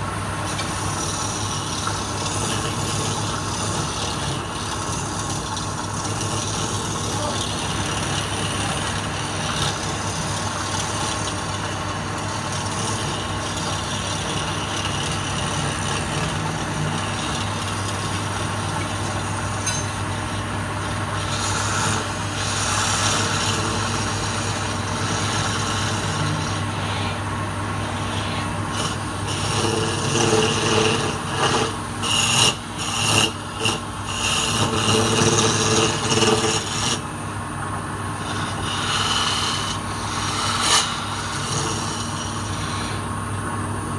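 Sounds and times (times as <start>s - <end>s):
scraper rasping on spinning wood: 0.0s - 37.2s, 38.0s - 43.2s
wood lathe humming: 0.0s - 43.9s.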